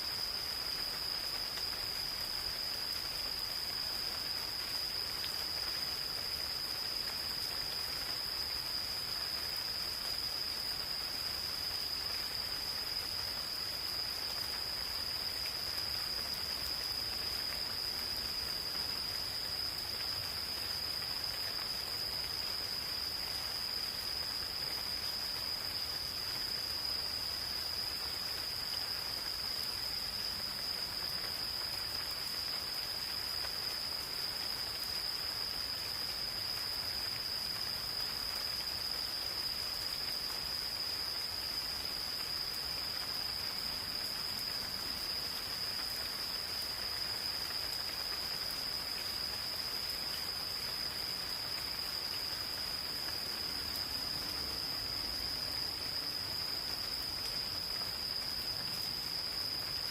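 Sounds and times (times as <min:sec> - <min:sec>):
gentle steady rain: 0:00.0 - 0:59.9
insects trilling: 0:00.0 - 0:59.9.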